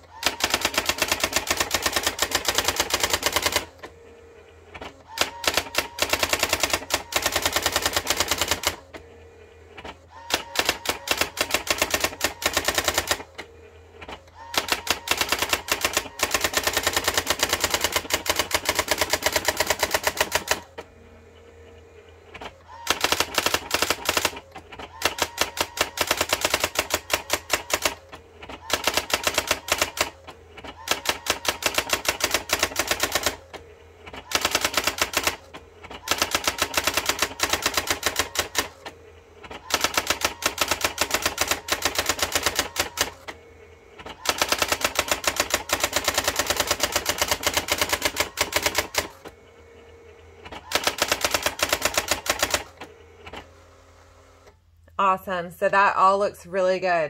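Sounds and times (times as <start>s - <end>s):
typewriter print wheel striking: 0.0s - 3.9s, 4.8s - 9.0s, 9.8s - 20.8s, 22.3s - 43.4s, 44.0s - 49.4s, 50.4s - 53.5s.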